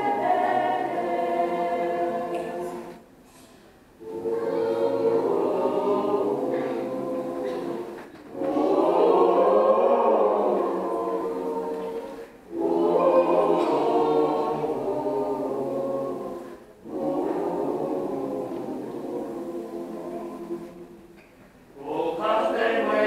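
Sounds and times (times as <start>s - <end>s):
mixed choir singing: 0.0s - 3.1s, 4.0s - 23.0s.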